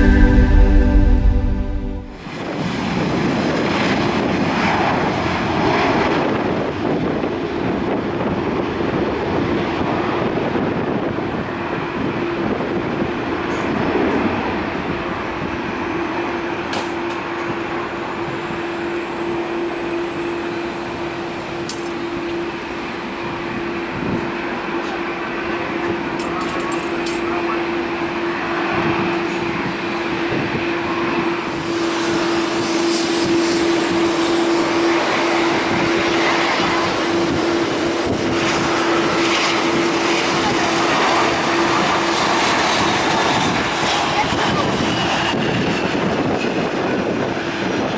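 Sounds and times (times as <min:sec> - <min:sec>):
jet engines running: 0:00.0 - 0:47.9.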